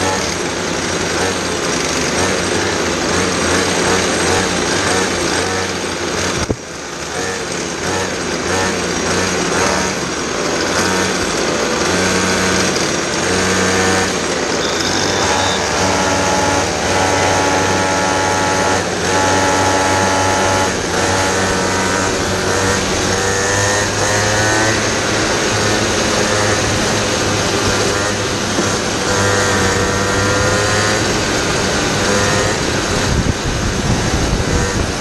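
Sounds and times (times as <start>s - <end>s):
kart two-stroke engine: 0.0s - 35.0s.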